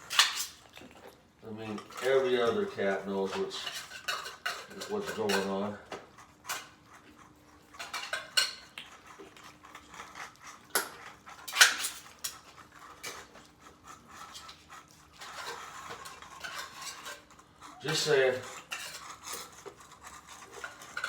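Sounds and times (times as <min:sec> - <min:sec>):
metal utensil scraping a dish: 0:00.0 - 0:00.6, 0:01.6 - 0:21.0.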